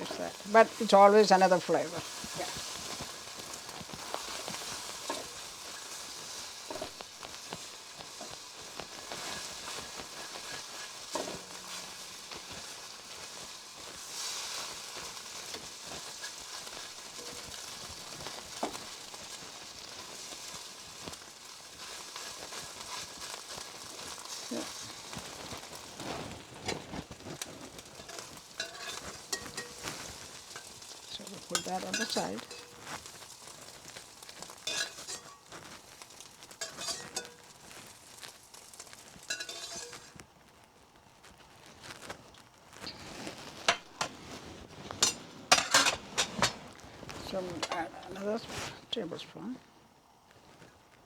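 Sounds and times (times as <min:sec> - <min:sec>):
spatula scraping a pan: 0:00.0 - 0:40.3, 0:41.3 - 0:48.8
eggs sizzling in oil: 0:00.0 - 0:51.0.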